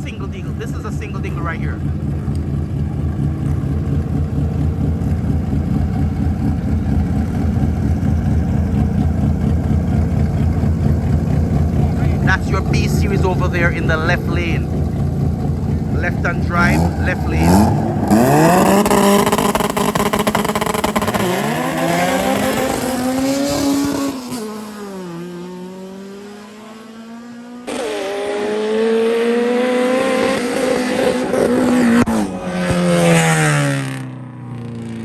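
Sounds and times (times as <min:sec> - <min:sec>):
race cars accelerating hard: 0:00.0 - 0:35.0.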